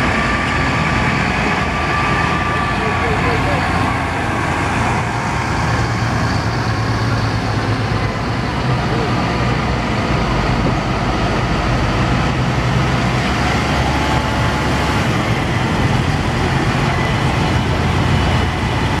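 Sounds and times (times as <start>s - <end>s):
tractor diesel engines driving past: 0.0s - 19.0s.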